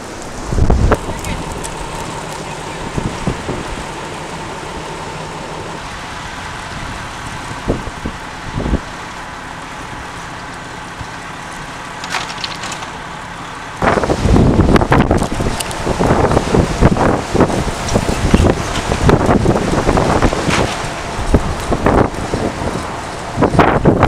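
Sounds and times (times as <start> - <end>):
strong wind blowing: 0.0 - 9.3, 13.8 - 24.0
wind buffeting microphone: 0.0 - 9.3, 13.8 - 24.0.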